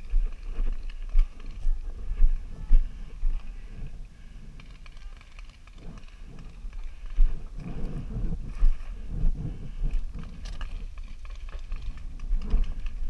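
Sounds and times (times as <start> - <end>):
dry branches scraping and rustling: 0.0 - 13.0
footsteps: 0.0 - 13.0.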